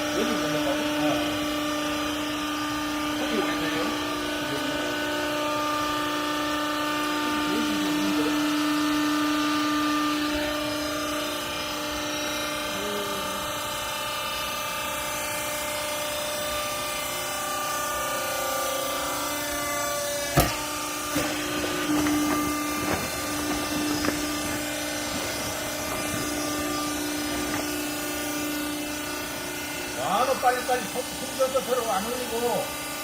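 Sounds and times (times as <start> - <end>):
pump motor droning whine: 0.0 - 33.0.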